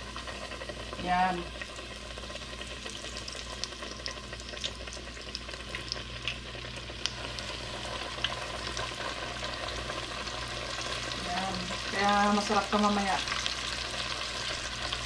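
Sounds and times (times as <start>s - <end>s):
chicken frying in hot oil: 0.0s - 15.0s.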